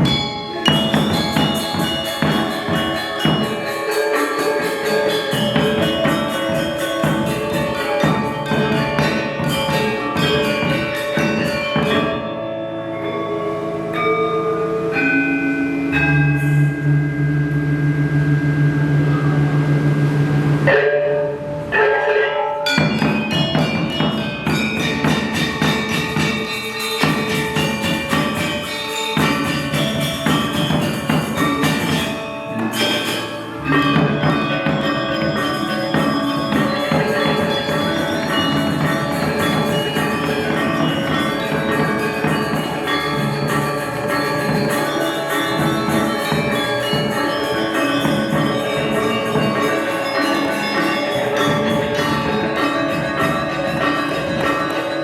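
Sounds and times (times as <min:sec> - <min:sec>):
gamelan ensemble playing: 0:00.0 - 0:55.0.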